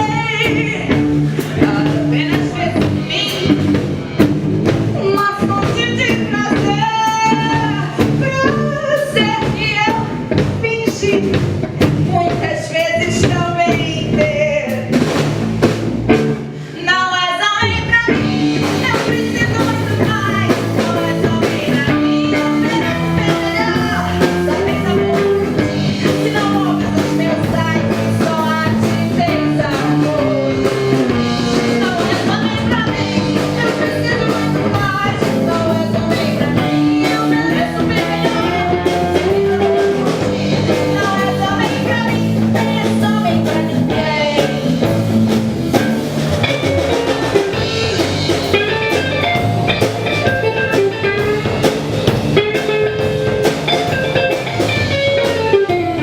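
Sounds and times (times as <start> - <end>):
live band playing rock pop: 0.0 - 56.0.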